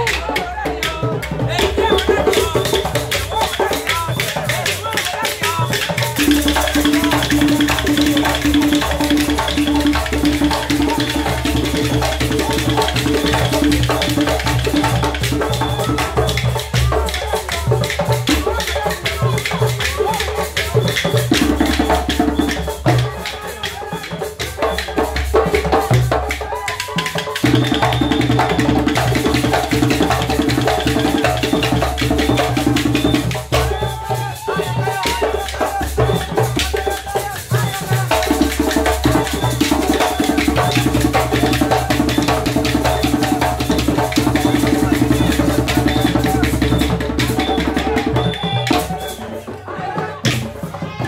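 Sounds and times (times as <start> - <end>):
djembe drumming ensemble: 0.0 - 51.0.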